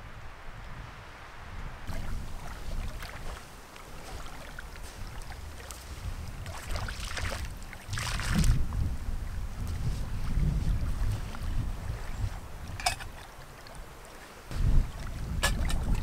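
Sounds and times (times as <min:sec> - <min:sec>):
wind buffeting the microphone: 0:00.0 - 0:16.0
small waves lapping on shore: 0:01.1 - 0:16.0.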